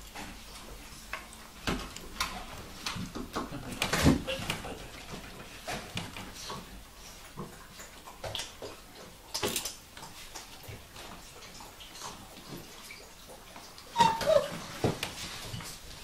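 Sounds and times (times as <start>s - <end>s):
puppy paws clicking and scuffling: 0.0s - 16.0s.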